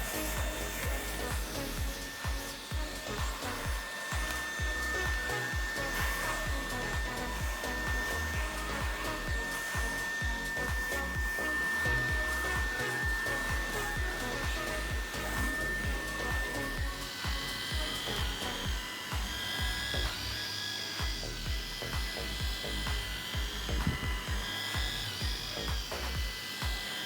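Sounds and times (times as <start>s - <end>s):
cordless vacuum running: 0.0s - 27.0s.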